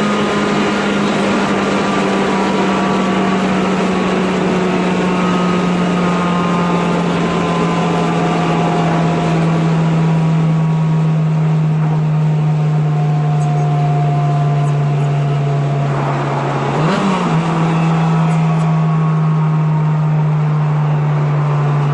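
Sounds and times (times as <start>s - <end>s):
car engine droning: 0.0s - 21.9s.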